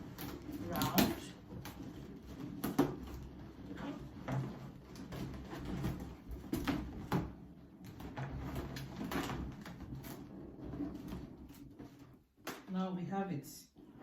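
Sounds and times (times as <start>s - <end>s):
balloons rubbing and creaking: 0.0s - 12.5s, 13.3s - 14.0s.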